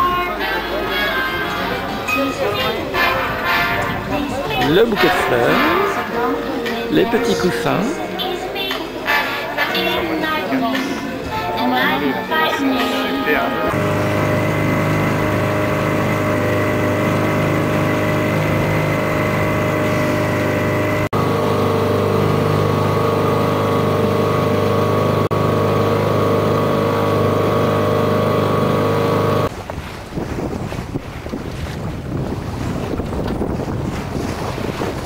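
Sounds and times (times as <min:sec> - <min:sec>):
boat motor humming: 0:00.0 - 0:35.0
water rushing past hull: 0:00.0 - 0:35.0
wind: 0:00.0 - 0:35.0.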